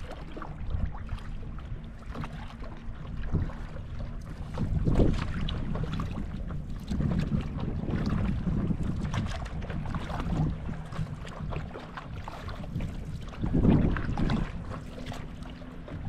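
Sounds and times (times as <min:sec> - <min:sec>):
water splashing from paddle strokes: 0:00.0 - 0:16.0
wind buffeting microphone: 0:00.0 - 0:16.0.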